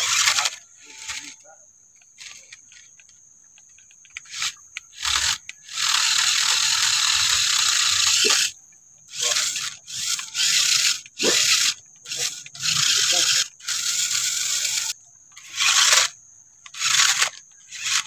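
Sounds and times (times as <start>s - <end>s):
toy motor whirring and grinding: 0.0s - 18.0s.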